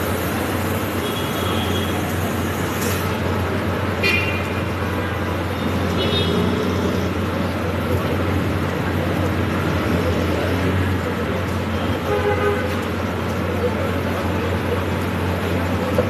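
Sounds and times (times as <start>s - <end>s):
traffic on wet road: 0.0s - 16.0s.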